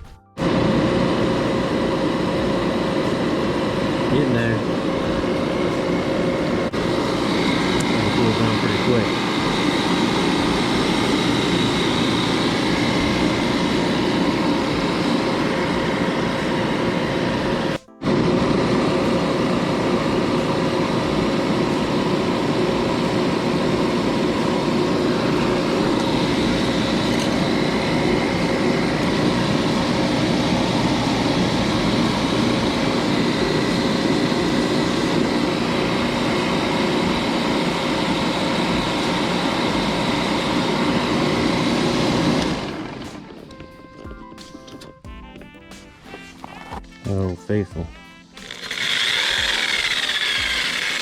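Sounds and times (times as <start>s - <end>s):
machine humming with faint whine: 0.0s - 44.2s, 48.4s - 51.0s.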